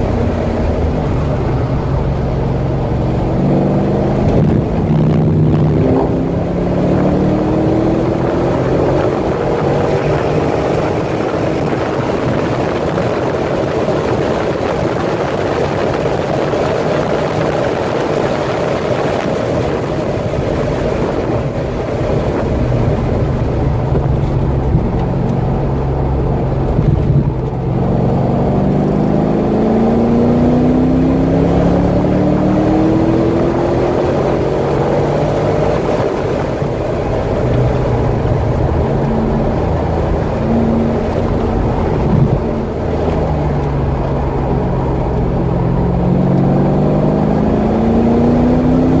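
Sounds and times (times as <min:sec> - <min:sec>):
car engine revving at speed: 0:00.0 - 0:49.0
gear change: 0:00.0 - 0:49.0.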